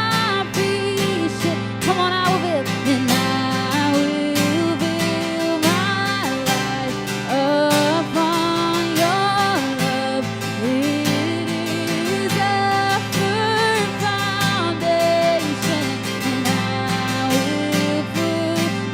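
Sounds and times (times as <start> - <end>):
strummed acoustic guitar: 0.0 - 18.9.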